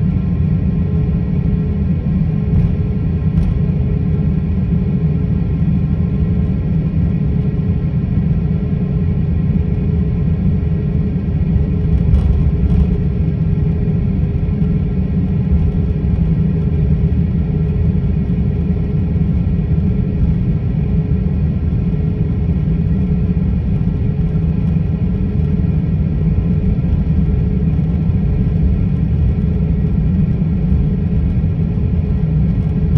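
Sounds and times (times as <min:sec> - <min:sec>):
constant cabin hum: 0:00.0 - 0:32.9
jet engines low rumble: 0:00.0 - 0:32.9.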